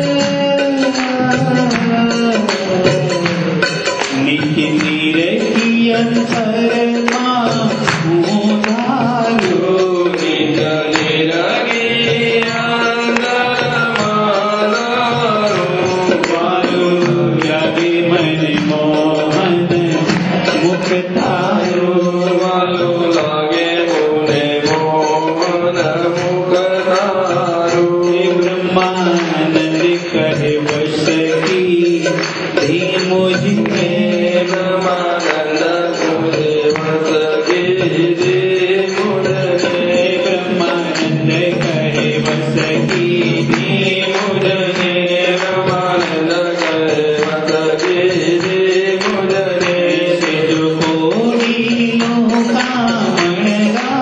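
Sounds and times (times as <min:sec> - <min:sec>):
steady percussion: 0:00.0 - 0:54.0.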